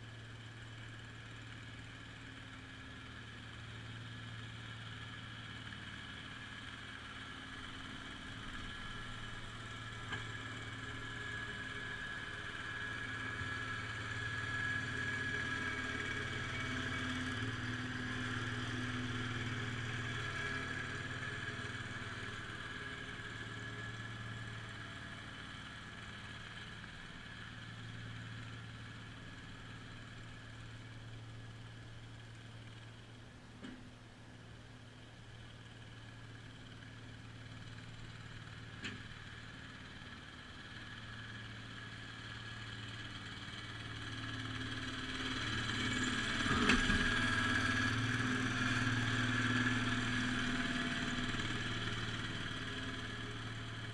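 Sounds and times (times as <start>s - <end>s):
garden tractor engine running: 0.0s - 53.9s.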